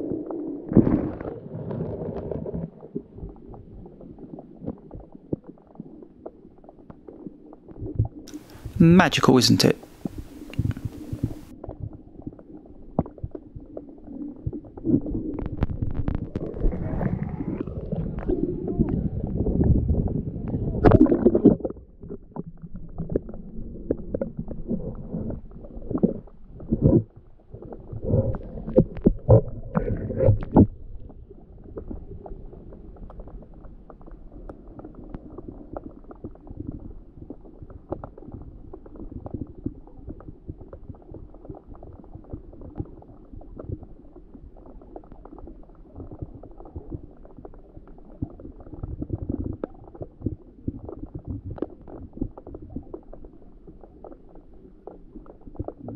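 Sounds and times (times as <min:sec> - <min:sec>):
underwater knocks and surges: 0:00.0 - 0:08.8, 0:09.7 - 0:55.9
faint crackle: 0:00.0 - 0:55.9
underwater rumble of moving water: 0:00.0 - 0:55.9.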